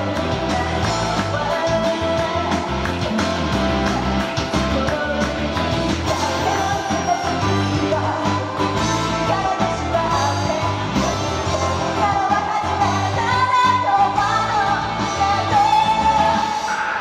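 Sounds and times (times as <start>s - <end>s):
rock backing track: 0.0s - 17.0s
woman singing into a microphone: 0.0s - 17.0s.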